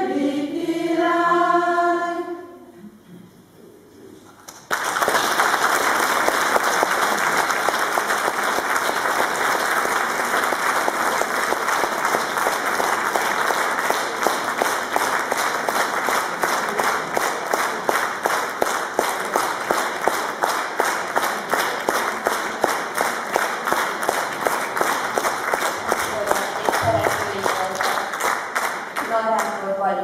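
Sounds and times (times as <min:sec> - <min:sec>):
audience applauding: 0:04.5 - 0:29.2.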